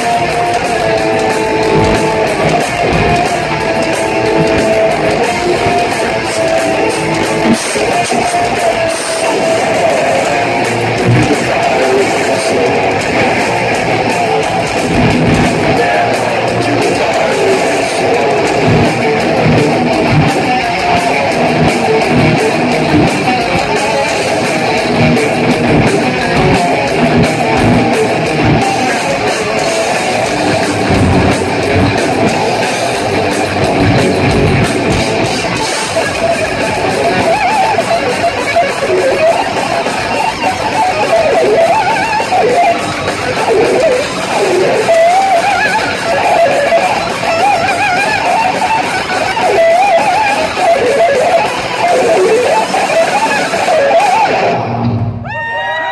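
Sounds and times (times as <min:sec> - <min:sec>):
thrash metal band playing: 0:00.0 - 0:55.9
wavering high guitar line: 0:00.0 - 0:55.9.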